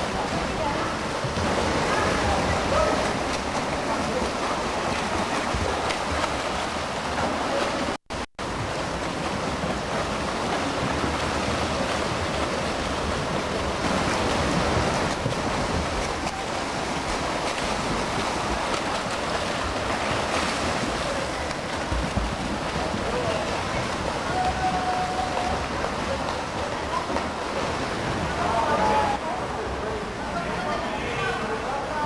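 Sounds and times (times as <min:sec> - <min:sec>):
swimmers splashing water: 0:00.0 - 0:32.0.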